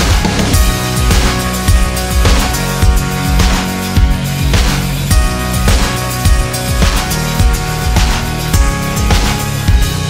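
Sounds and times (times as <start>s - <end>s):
music with strong drum beat: 0.0s - 10.0s.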